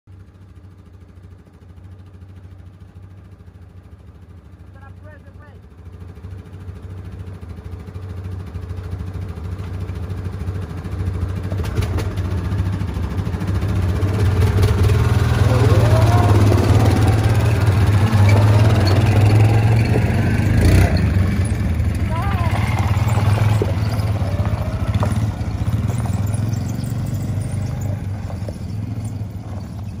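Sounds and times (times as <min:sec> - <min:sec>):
atv engines idling: 0:00.1 - 0:30.0.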